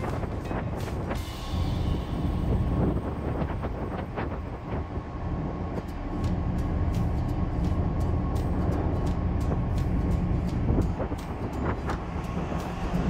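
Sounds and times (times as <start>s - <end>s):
boat engine rumbling: 0.0s - 13.0s
wind noise: 0.0s - 13.0s.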